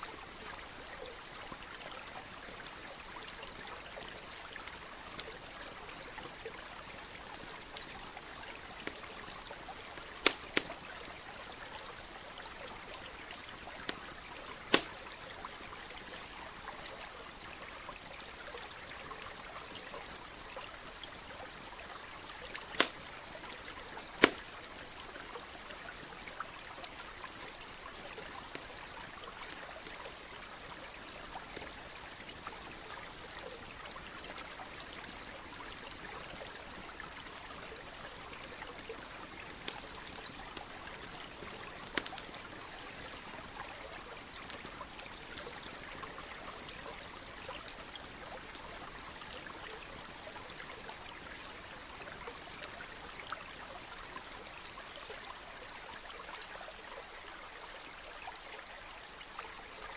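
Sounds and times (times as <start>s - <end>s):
campfire crackling and popping: 0.0s - 56.5s
stream trickling: 0.0s - 59.9s.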